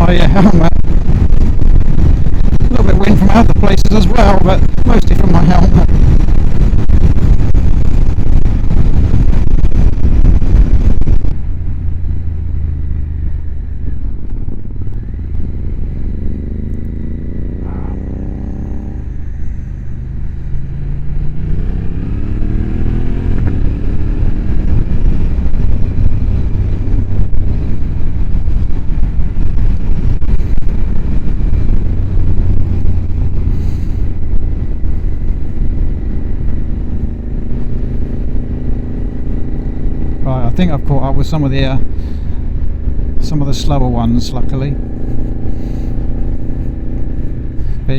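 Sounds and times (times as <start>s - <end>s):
helmet wind noise: 0.0s - 47.9s
motorcycle engine: 0.0s - 47.9s.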